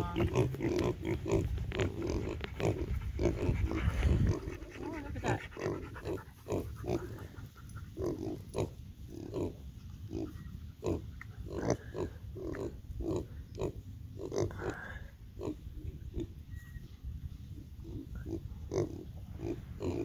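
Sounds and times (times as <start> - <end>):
piglets grunting: 0.0 - 16.4, 17.8 - 20.0.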